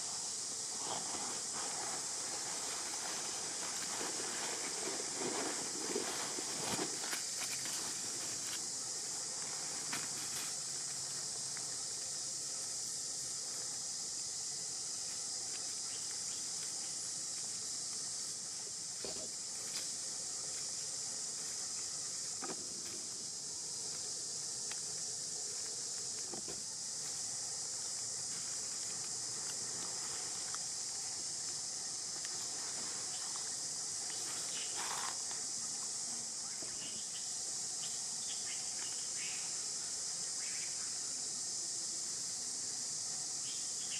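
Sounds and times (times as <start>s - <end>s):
insects droning: 0.0s - 43.9s
faint rustles and ticks: 0.1s - 37.6s.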